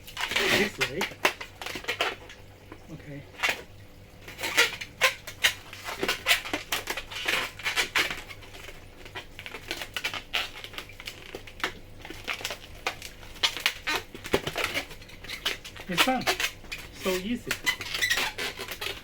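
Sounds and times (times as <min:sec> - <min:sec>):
balloon squeaks and crackles: 0:00.0 - 0:19.0.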